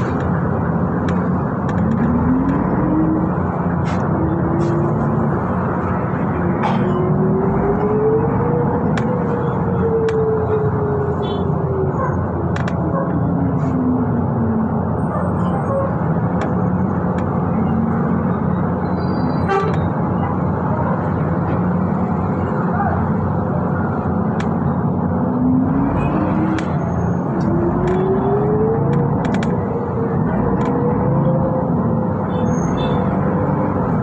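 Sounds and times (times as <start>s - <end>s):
bus drive whine: 0.0s - 34.0s
bus road noise: 0.0s - 34.0s.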